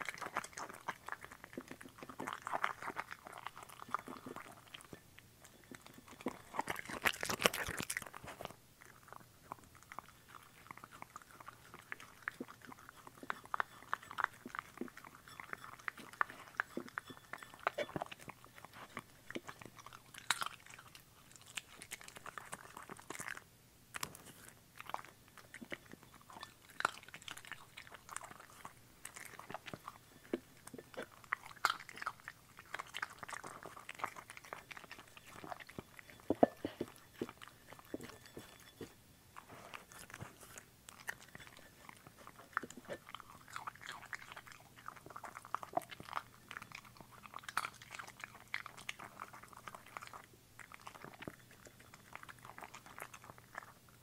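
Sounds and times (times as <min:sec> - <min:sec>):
dog chewing food: 0:00.0 - 0:54.0.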